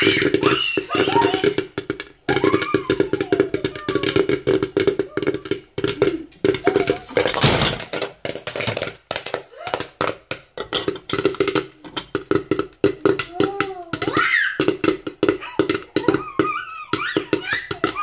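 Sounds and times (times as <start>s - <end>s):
popcorn popping in a pot: 0.0s - 18.0s
pot shaken rattling: 0.0s - 18.0s.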